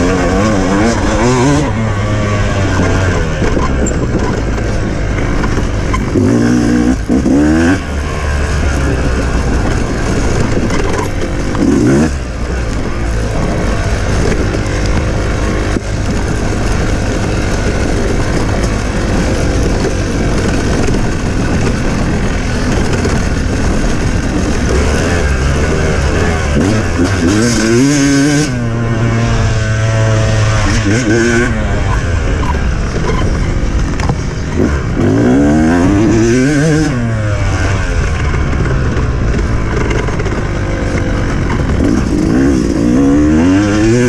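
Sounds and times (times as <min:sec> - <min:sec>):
racing engine revving: 0:00.0 - 0:44.0.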